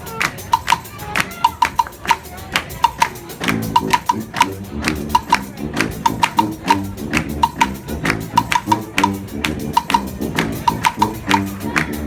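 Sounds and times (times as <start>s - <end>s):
brass band playing: 0.0s - 12.0s
sharp percussion hits: 0.0s - 12.0s.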